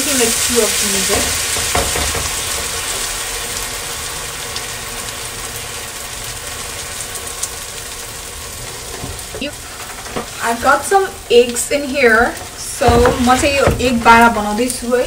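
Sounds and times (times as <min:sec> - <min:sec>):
batter sizzling in oil: 0:00.0 - 0:15.0.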